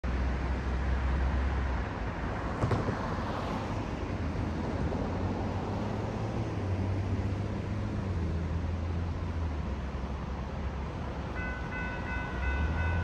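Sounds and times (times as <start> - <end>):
cars passing: 0.1 - 13.0.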